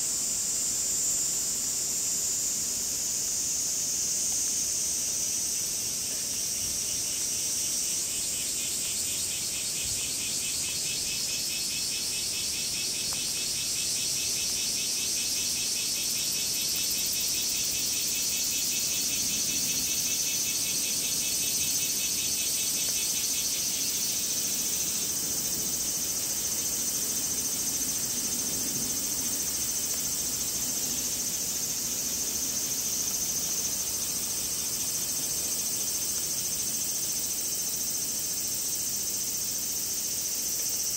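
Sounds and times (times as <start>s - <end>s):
cicadas buzzing: 0.0s - 40.9s
pulsing cicada call: 0.0s - 40.9s.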